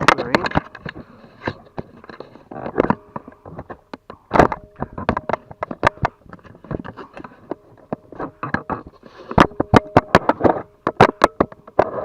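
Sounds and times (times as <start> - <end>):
copper cable clattering: 0.0 - 12.0
faint steady hum: 0.0 - 12.0.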